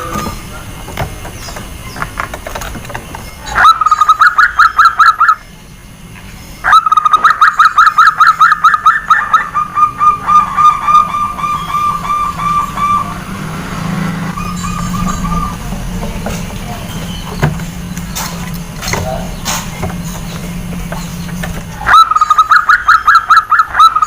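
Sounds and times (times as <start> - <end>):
dove calling in clipped notes: 0.0 - 24.0.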